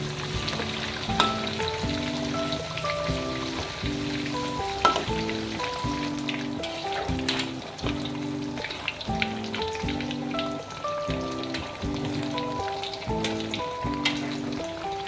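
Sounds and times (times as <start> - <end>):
background music: 0.0 - 15.0
tofu deep-frying in oil: 0.0 - 15.0.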